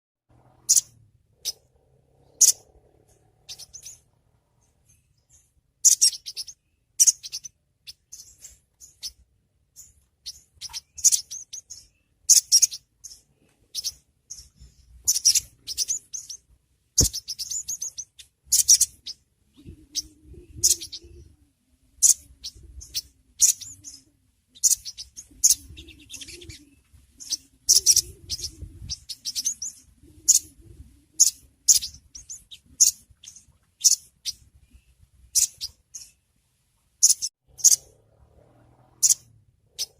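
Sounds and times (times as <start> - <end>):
bird giving sharp high chirps: 0.6 - 4.1, 5.2 - 9.2, 9.8 - 21.3, 22.0 - 30.6, 31.2 - 34.5, 35.3 - 36.2, 37.0 - 38.0, 39.0 - 39.9.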